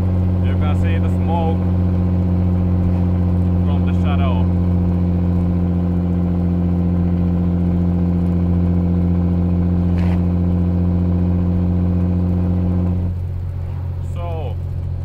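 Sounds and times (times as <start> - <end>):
vehicle engine pulling hard: 0.0 - 15.0.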